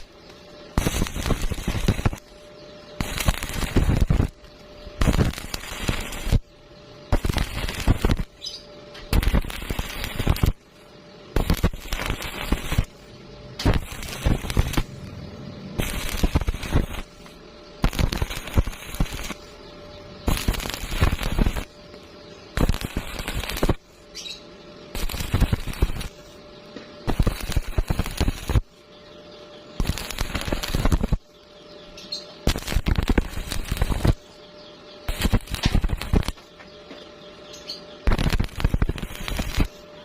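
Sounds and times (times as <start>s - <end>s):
electric welding arc crackling: 0.0s - 26.4s, 27.0s - 28.8s, 29.7s - 31.4s, 32.0s - 34.4s, 35.0s - 36.5s, 37.6s - 39.9s.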